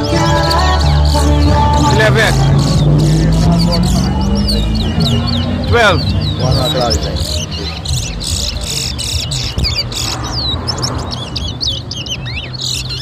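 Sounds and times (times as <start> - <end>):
finches chirping and whistling: 0.0 - 13.0.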